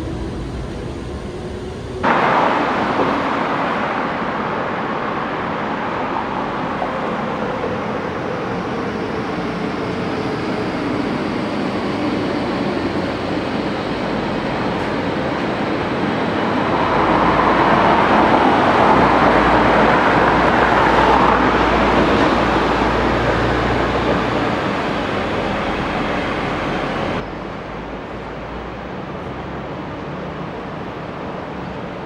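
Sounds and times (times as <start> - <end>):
train rumble and rail roar: 0.0 - 32.0.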